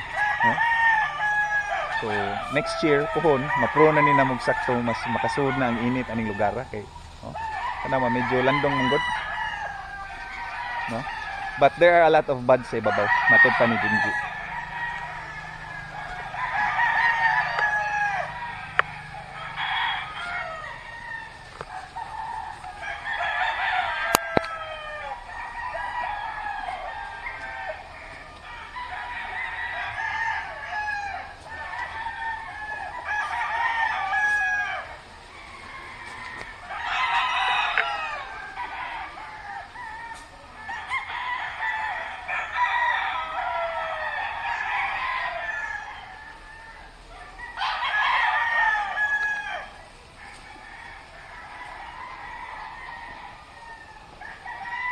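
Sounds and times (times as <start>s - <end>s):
roosters crowing: 0.0s - 54.9s.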